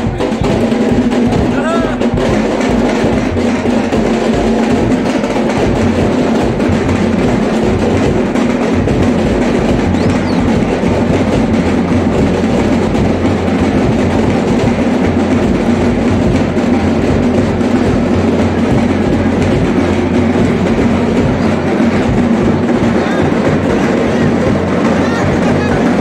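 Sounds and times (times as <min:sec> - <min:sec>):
loud procession crowd din: 0:00.0 - 0:26.0.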